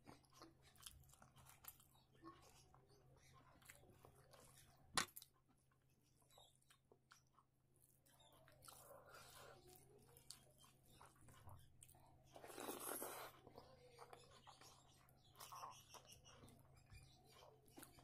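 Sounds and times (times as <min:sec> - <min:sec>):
chewing with wet mouth clicks: 0:00.0 - 0:18.0.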